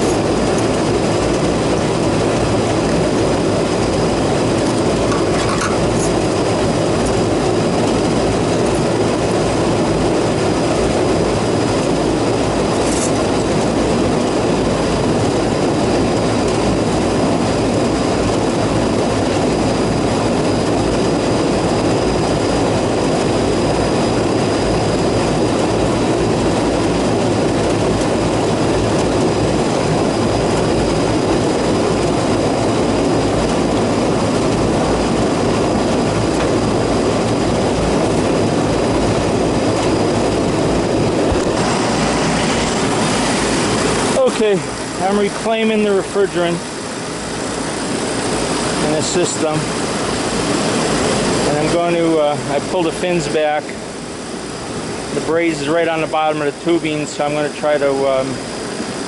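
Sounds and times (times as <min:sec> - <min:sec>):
faint high whine: 0:00.0 - 0:59.0
refrigerant recovery machine running: 0:00.0 - 0:59.0.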